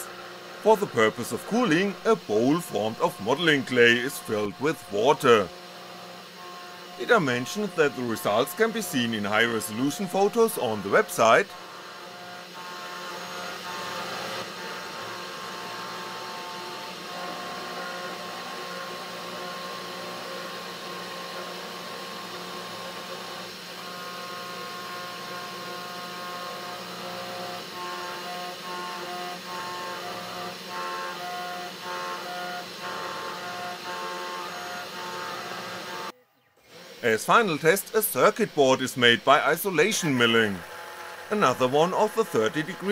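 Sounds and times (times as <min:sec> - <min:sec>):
spindle motor whining: 0:00.0 - 0:42.9
stepper motors whining: 0:00.0 - 0:42.9.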